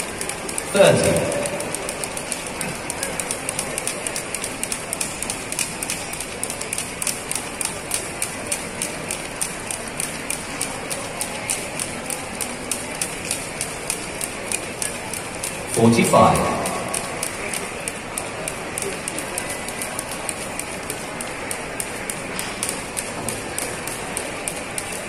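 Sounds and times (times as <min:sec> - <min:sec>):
crowd hubbub: 0:00.0 - 0:25.0
jump ropes ticking on floor: 0:00.0 - 0:25.0.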